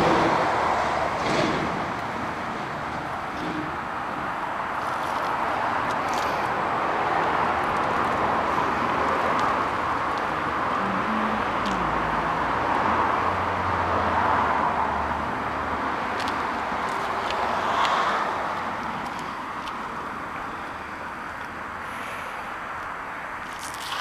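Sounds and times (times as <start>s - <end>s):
passing vehicle engine: 0.0s - 22.8s
road traffic hiss: 0.0s - 24.0s.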